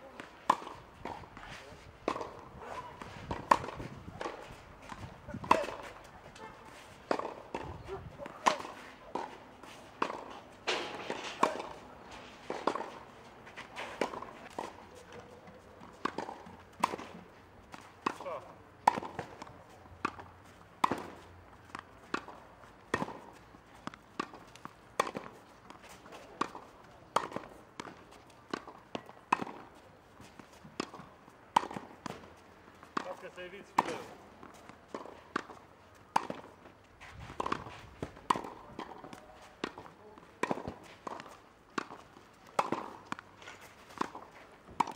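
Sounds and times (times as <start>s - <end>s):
racket striking tennis ball: 0.1s - 44.9s.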